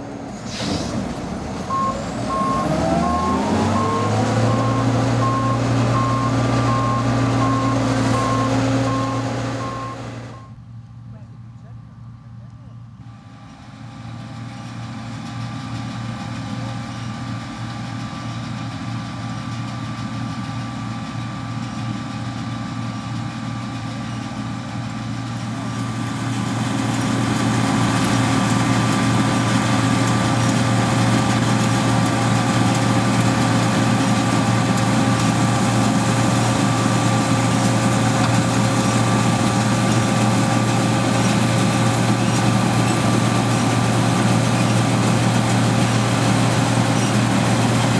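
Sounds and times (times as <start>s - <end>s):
combine harvester engine hum: 0.0s - 47.9s.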